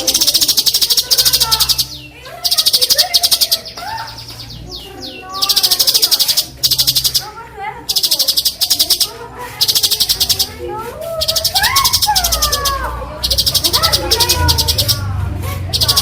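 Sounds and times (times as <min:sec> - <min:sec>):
bird harsh rattling calls: 0:00.0 - 0:16.0.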